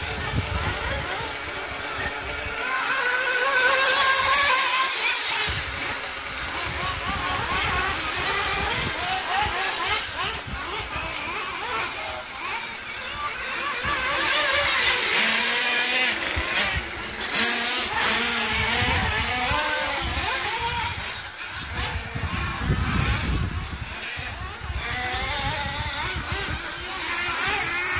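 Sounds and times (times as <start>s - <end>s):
model car engines whining: 0.0s - 27.9s.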